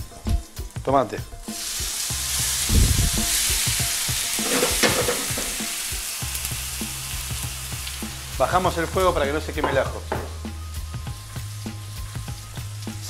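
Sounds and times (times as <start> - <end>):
tomato sizzling in hot oil: 0.4 - 13.0.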